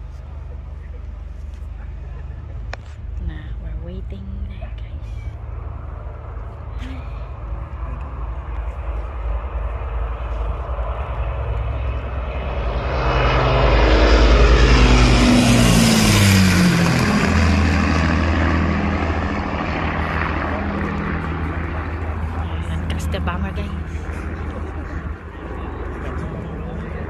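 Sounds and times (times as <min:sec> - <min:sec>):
propeller plane engines droning: 0:00.0 - 0:27.0.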